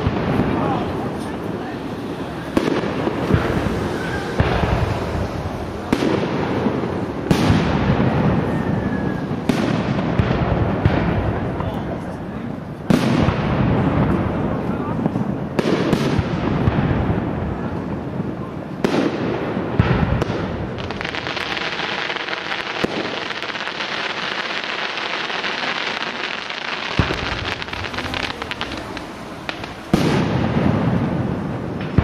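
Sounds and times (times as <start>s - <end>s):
firework booms: 0.0s - 32.0s
firework crackling and pops: 0.0s - 32.0s.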